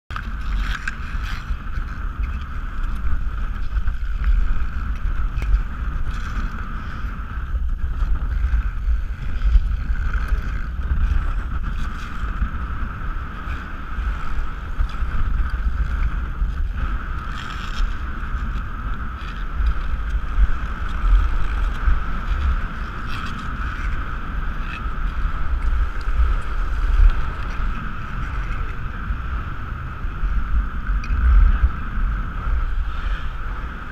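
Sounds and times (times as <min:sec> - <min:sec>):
skate blades scraping ice: 0:00.1 - 0:33.9
steady hum: 0:00.1 - 0:33.9
wind rushing over microphone: 0:00.1 - 0:33.9.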